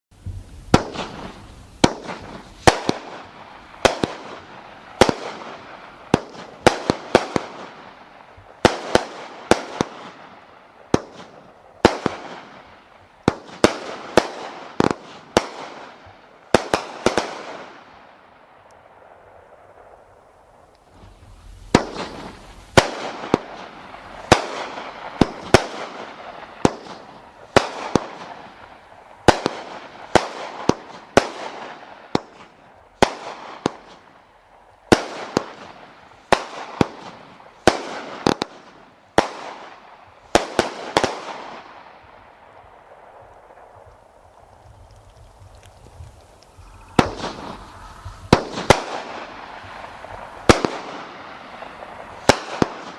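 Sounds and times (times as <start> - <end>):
fireworks bangs with hiss: 0.1 - 52.9.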